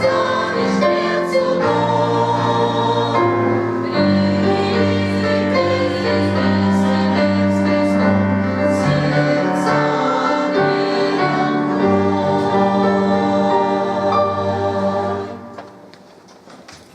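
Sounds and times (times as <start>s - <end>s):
choir singing a hymn: 0.0s - 15.9s.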